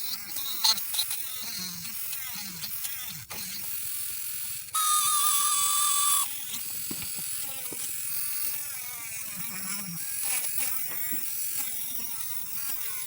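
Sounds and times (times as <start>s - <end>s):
small motor high whine: 0.0s - 13.0s.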